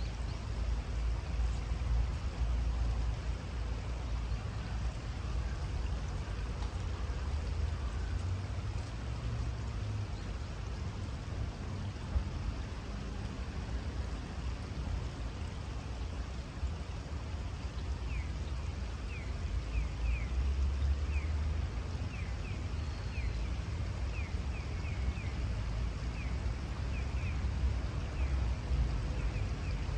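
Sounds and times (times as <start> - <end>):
river water running over stones: 0.0 - 29.9.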